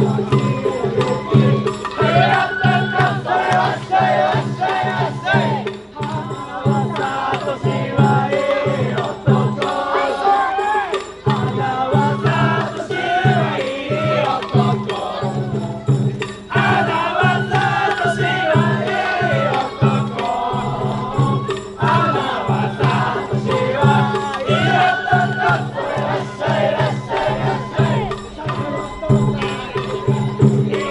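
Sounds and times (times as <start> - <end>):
crowd voices: 0.0 - 30.9
steady drum beat: 0.0 - 30.9
wavering flute melody: 0.0 - 30.9.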